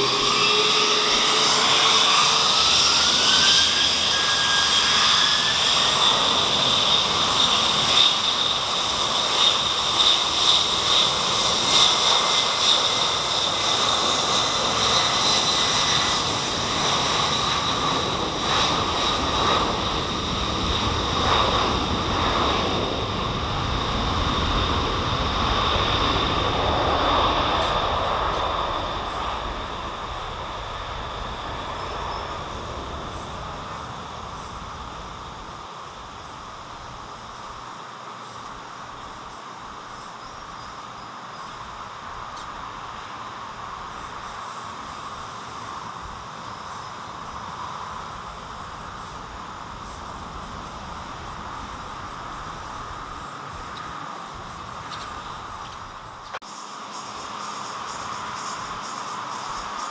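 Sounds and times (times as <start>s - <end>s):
jet engine roar: 0.0s - 59.9s
jet engine whine: 0.0s - 59.9s.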